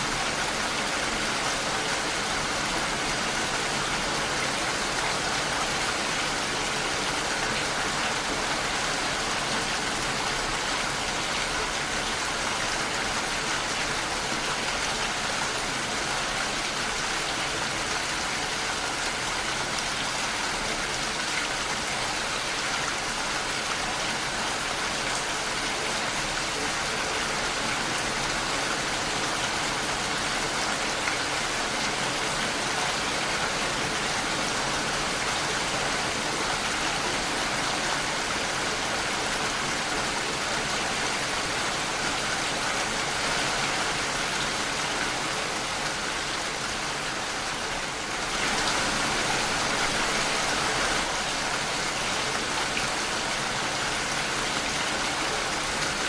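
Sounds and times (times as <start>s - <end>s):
rain on a window pane: 0.0s - 56.0s.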